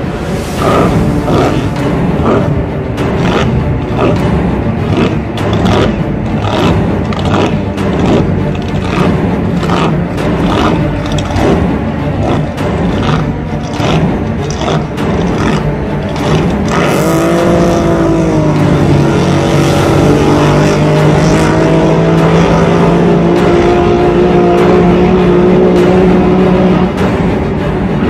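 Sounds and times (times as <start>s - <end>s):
noisy rumble: 0.0s - 28.0s
racing powerboat engine whining: 0.0s - 28.0s.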